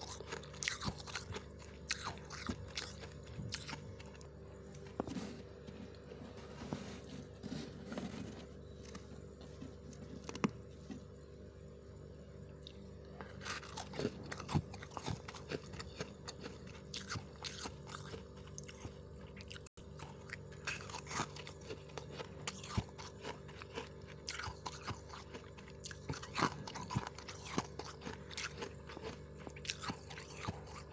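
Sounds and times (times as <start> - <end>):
person crunching frost: 0.0 - 11.1, 12.6 - 30.9.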